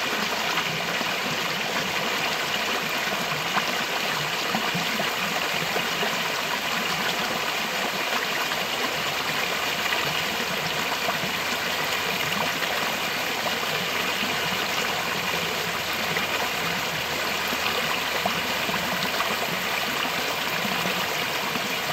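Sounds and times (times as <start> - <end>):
stream flowing: 0.0 - 21.9.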